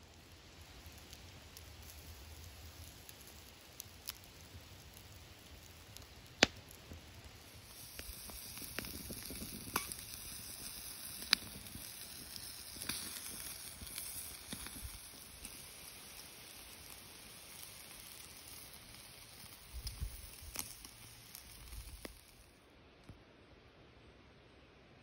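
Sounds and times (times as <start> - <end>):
sausages sizzling on a grill: 0.0 - 22.6
sharp pops and crackles: 0.1 - 23.2.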